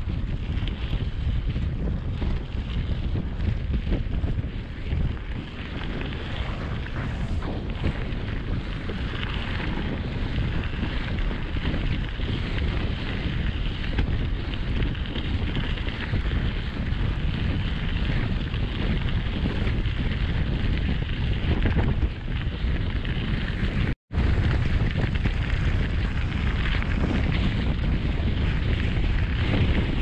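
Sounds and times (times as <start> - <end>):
bike tyres rolling over gravel: 0.0 - 30.0
wind noise on microphone: 0.0 - 30.0.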